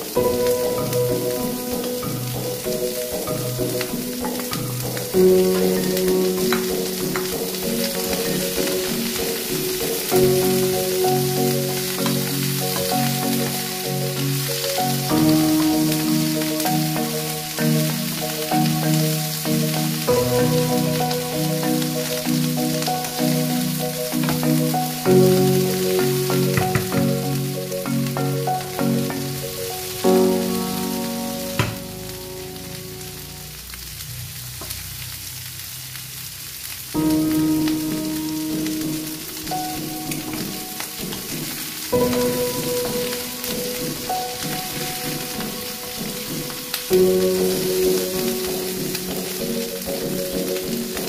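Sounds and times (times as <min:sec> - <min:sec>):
background music: 0:00.0 - 0:33.8, 0:37.0 - 0:51.0
prawns sizzling in a frying pan: 0:00.0 - 0:51.0.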